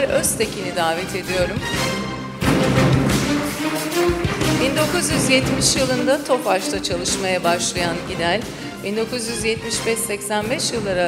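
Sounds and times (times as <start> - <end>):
ceremony walk-on music: 0.0 - 11.0.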